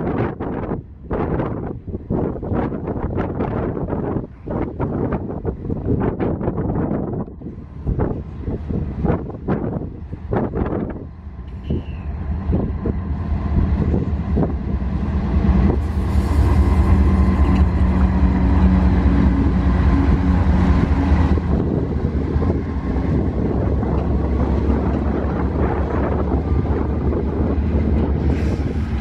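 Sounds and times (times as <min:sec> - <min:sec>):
diesel locomotive engine drone: 0:00.0 - 0:29.0
train wheels on rails: 0:00.1 - 0:29.0.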